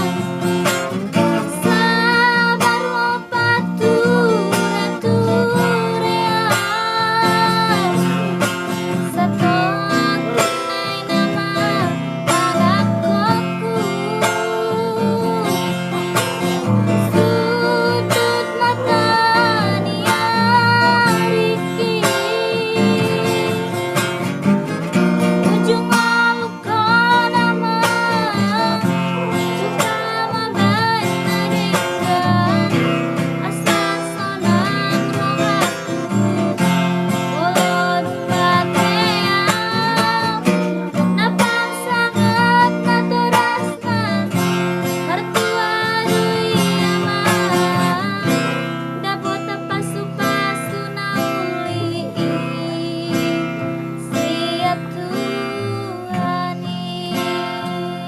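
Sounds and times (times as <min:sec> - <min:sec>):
strummed acoustic guitar: 0:00.0 - 0:58.0
woman singing with vibrato: 0:00.0 - 0:58.0.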